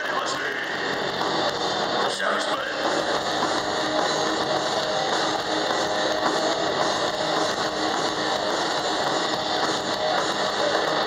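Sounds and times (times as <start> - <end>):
bass guitar: 0.0 - 11.0
distorted electric guitars: 0.0 - 11.0
drums: 0.0 - 11.0.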